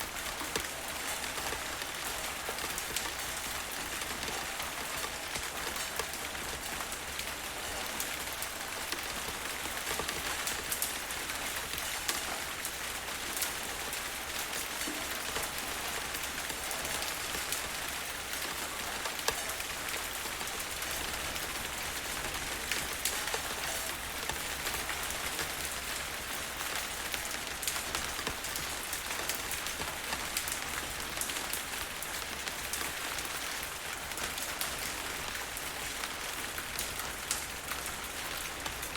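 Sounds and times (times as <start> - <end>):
heavy rain falling: 0.0 - 38.9
raindrop ticks: 0.1 - 38.9.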